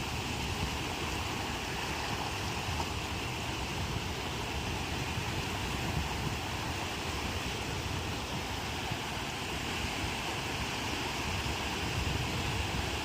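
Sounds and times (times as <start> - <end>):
wind buffeting microphone: 0.0 - 9.0, 11.3 - 13.0
sea surf washing ashore: 0.0 - 13.0.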